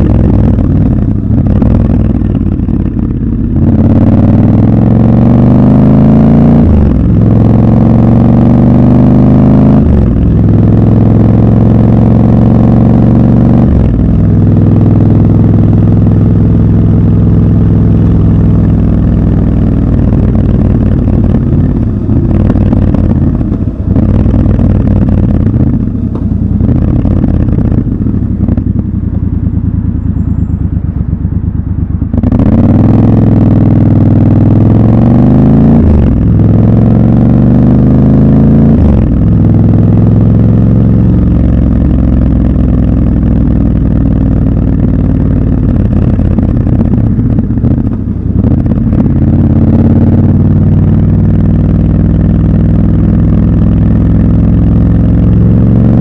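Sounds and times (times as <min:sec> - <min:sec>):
motorcycle engine revving and shifting: 0:00.0 - 0:56.0.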